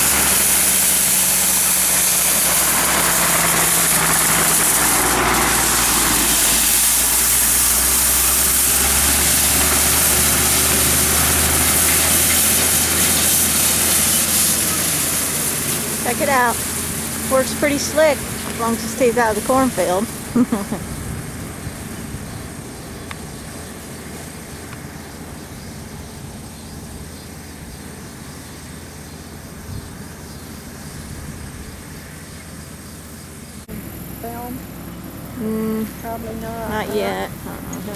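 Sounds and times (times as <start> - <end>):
constant high hiss: 0.0 - 37.9
tractor engine running: 0.0 - 37.9.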